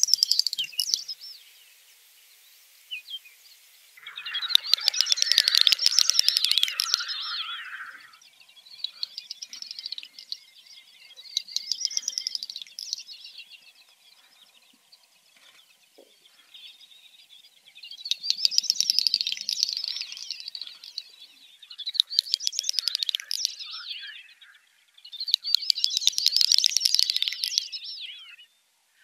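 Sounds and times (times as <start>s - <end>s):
songbird twittering: 0.0s - 29.0s.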